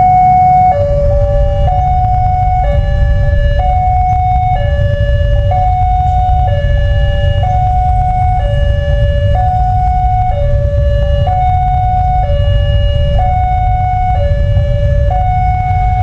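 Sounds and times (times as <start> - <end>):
level crossing warning siren: 0.0 - 16.0
low rumble: 0.0 - 16.0.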